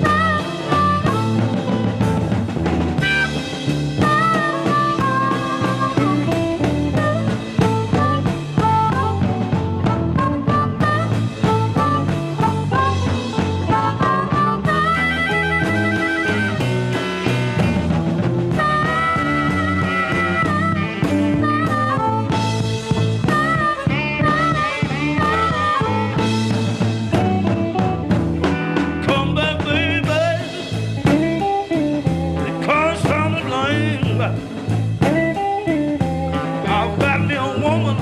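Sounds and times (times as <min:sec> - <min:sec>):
drums: 0:00.0 - 0:38.0
electric guitar: 0:00.0 - 0:38.0
harmonica: 0:00.0 - 0:38.0.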